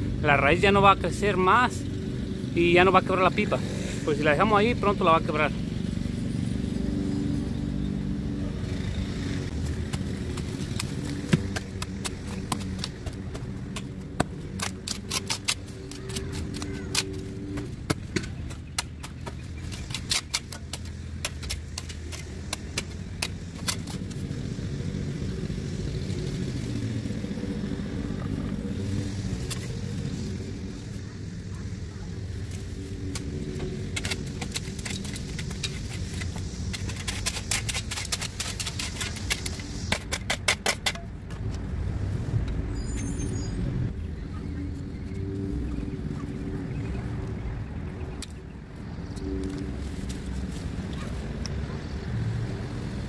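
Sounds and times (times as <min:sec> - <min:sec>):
engine hum: 0:00.0 - 0:53.0.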